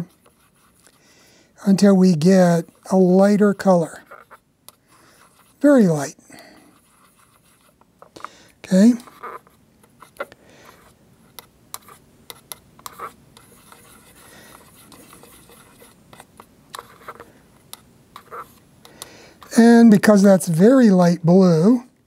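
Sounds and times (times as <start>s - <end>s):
paintbrush scratching in palette: 0.0s - 1.0s, 1.7s - 18.7s.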